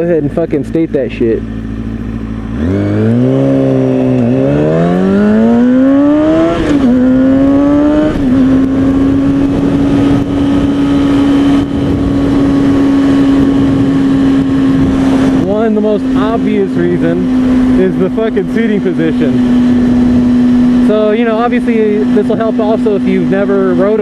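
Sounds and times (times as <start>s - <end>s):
motorcycle engine accelerating: 0.0s - 24.0s
wind rush: 2.6s - 22.2s.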